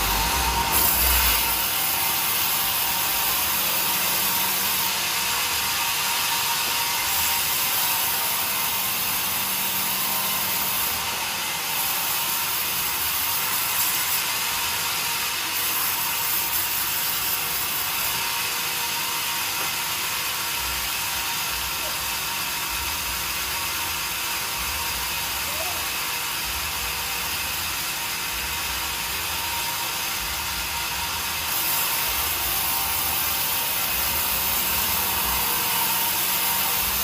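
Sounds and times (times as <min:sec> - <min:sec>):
saw cutting through timber: 0:00.0 - 0:37.0.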